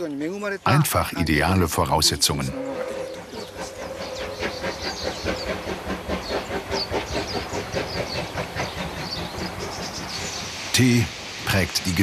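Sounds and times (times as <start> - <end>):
hissing steam: 0.7 - 12.0
steam locomotive exhaust beats: 0.8 - 12.0.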